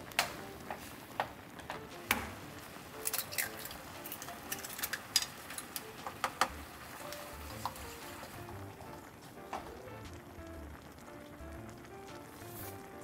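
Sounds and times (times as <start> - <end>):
broth simmering and bubbling: 0.0 - 13.0.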